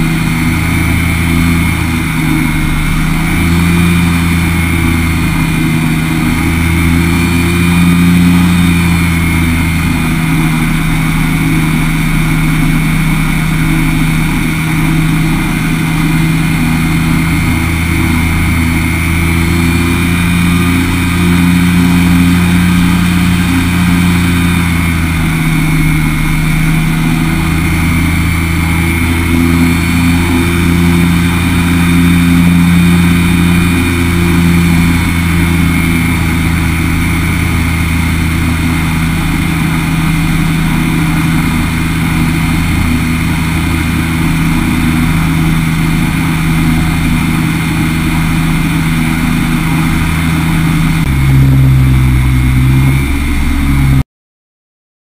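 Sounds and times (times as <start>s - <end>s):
aircraft engine and propeller drone: 0.0s - 54.0s.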